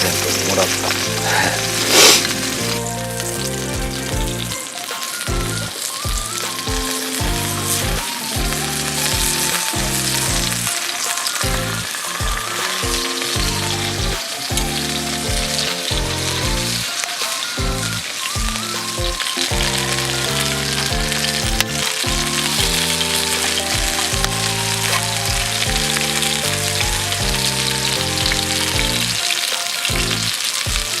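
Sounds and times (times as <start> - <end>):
background music with bass line: 0.0 - 31.0
food sizzling in frying: 0.0 - 31.0.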